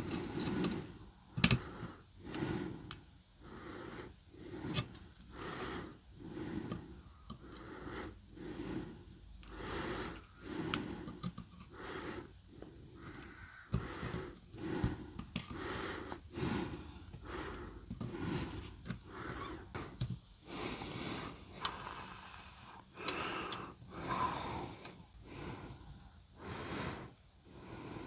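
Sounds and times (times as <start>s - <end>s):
person breathing: 0.0s - 28.0s.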